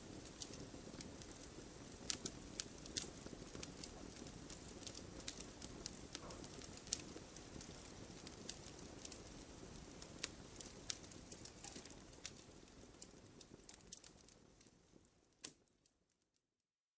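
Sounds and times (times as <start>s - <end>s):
wood fire crackling: 0.0s - 16.4s.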